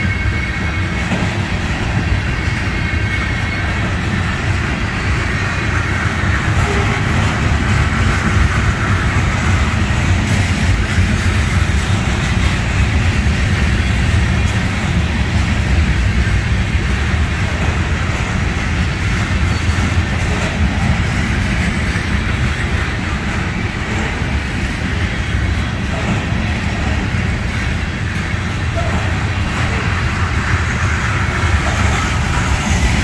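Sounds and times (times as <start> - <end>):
freight cars rolling on rails: 0.0 - 33.0.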